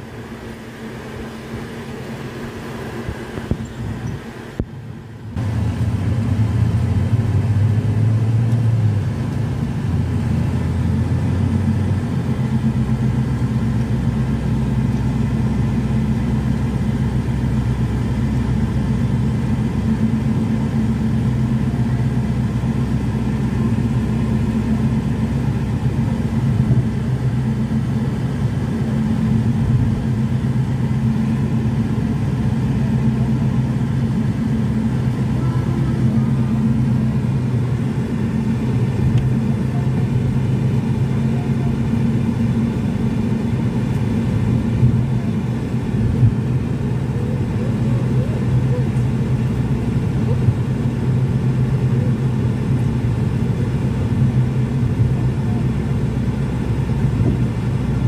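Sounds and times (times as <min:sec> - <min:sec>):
car engine: 0:00.0 - 0:58.0
road rumble: 0:00.0 - 0:58.0.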